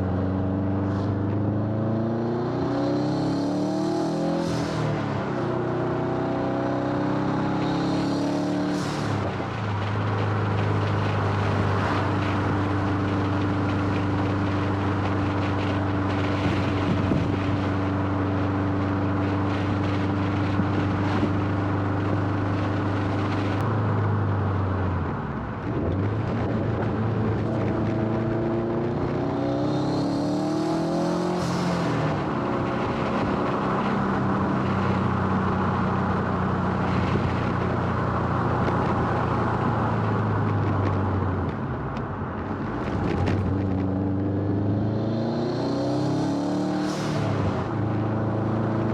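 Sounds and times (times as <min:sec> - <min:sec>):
turbocharged car engine revving: 0:00.0 - 0:41.6, 0:42.5 - 0:48.9.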